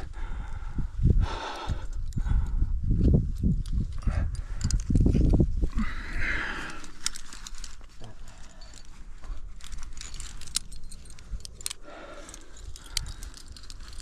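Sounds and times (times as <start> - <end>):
metal climbing gear clinking: 1.3 - 14.0.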